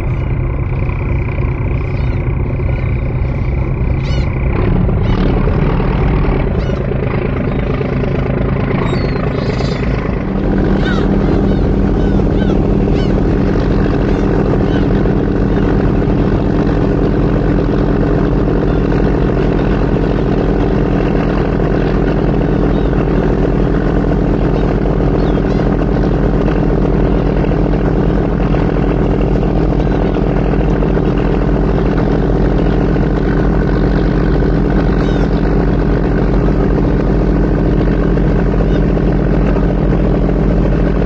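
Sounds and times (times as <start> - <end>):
ferry engine droning: 0.0 - 41.0.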